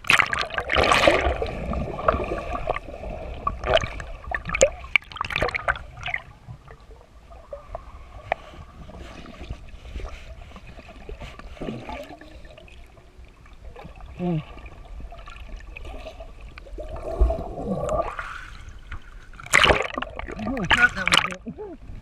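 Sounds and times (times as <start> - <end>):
water splashing and gurgling: 0.0 - 22.0.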